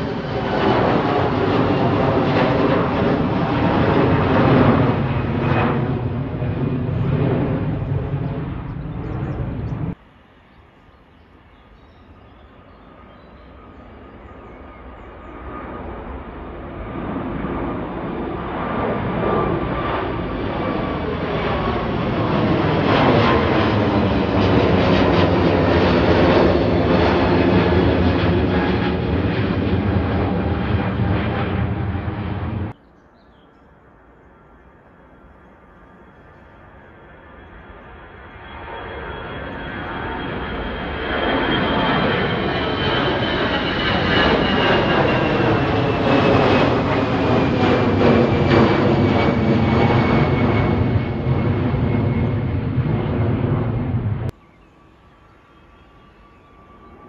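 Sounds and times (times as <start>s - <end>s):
jet airliner engines roaring: 0.0s - 57.0s.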